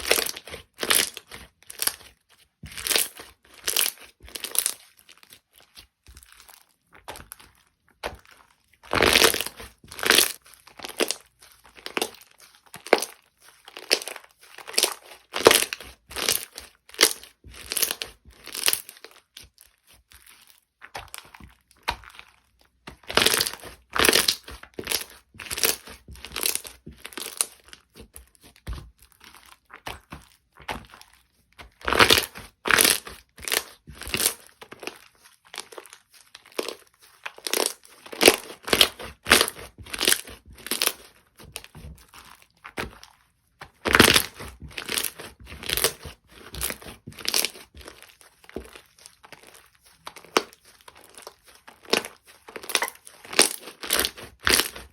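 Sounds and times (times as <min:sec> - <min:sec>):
slime crackling and popping: 0:00.0 - 0:54.9.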